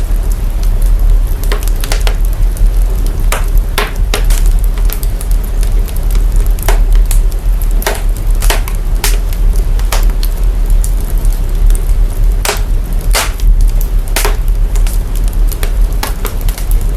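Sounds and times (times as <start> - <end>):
deep steady rumble: 0.0 - 16.9
wood fire crackling: 0.0 - 16.9.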